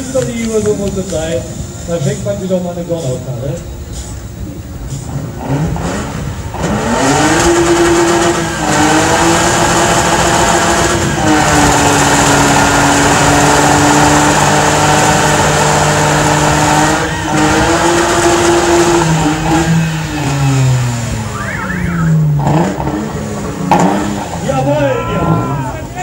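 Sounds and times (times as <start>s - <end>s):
tyres spinning: 3.6s - 26.0s
car engine revving high: 3.9s - 26.0s.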